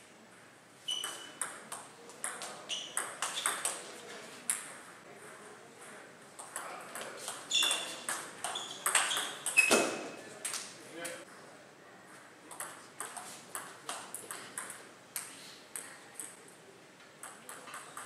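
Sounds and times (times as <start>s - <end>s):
table tennis rally: 0.8s - 11.5s, 12.2s - 18.0s.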